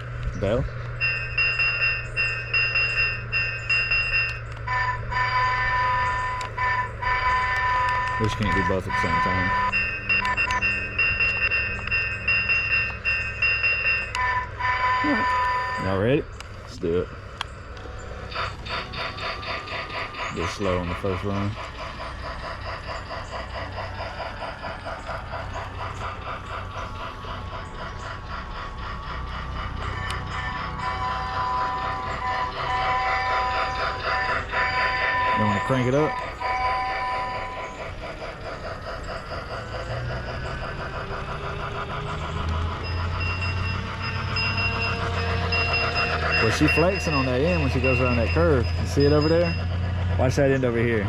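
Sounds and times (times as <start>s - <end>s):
model train motor hum: 0.0s - 51.0s
rhythmic chuffing clatter: 0.0s - 51.0s.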